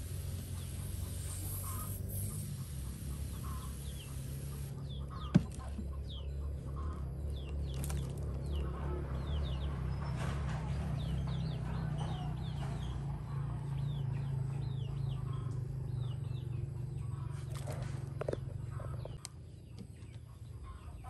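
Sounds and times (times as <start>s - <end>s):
chickens clucking: 0.0s - 21.0s
small birds chirping: 0.0s - 21.0s.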